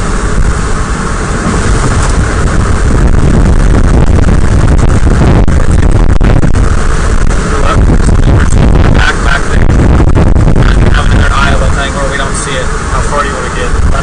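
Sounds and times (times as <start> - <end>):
road noise inside moving car: 0.0 - 14.0
wind noise: 0.0 - 14.0.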